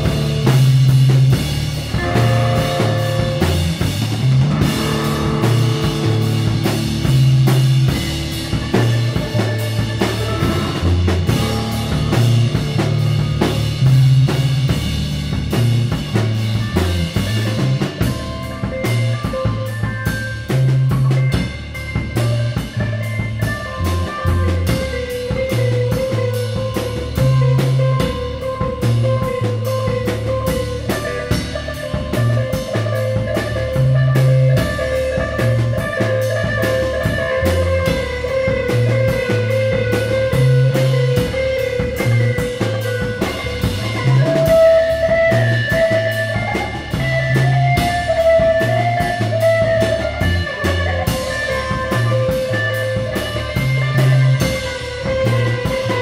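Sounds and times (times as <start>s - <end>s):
bass line: 0.0s - 56.0s
electric guitar holding long notes: 0.0s - 56.0s
steady drum-kit beat: 0.0s - 56.0s.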